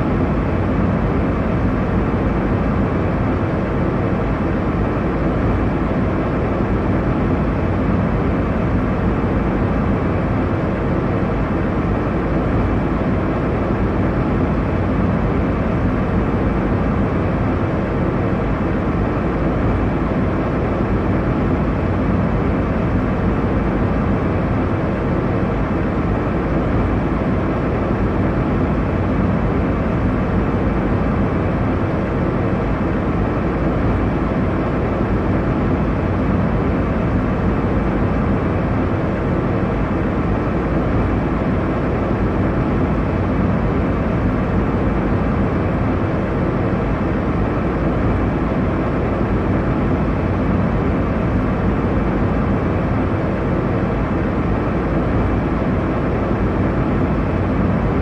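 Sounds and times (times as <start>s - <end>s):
jet cabin engine and airflow rush: 0.0s - 58.0s.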